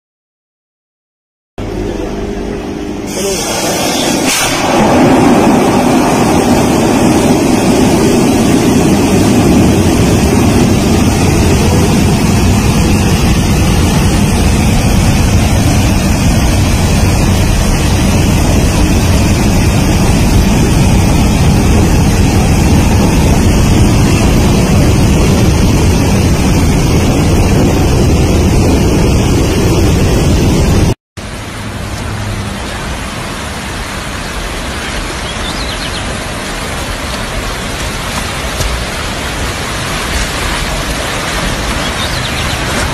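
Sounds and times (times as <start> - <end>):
water jetting and crashing: 3.1 - 42.9.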